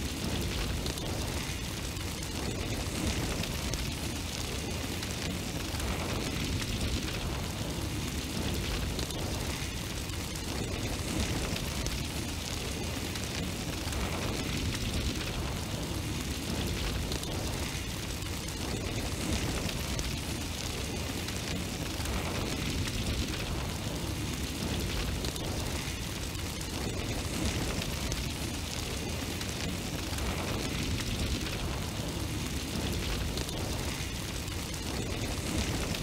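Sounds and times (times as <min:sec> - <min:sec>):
flame roaring: 0:00.0 - 0:36.0.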